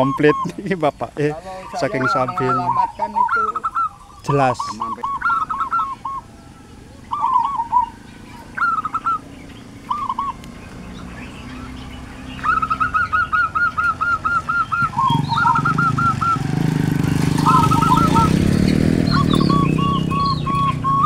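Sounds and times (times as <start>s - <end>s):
bird calling in repeated notes: 0.0s - 21.0s
small vehicle engine: 0.0s - 21.0s.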